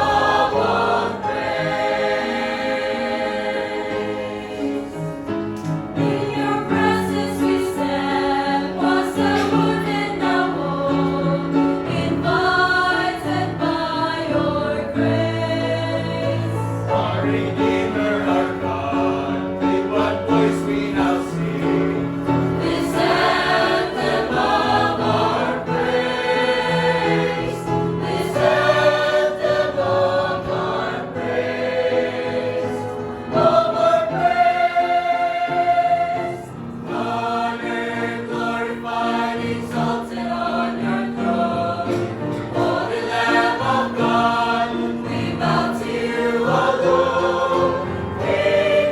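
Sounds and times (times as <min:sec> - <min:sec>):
choir singing a hymn: 0:00.0 - 0:48.9.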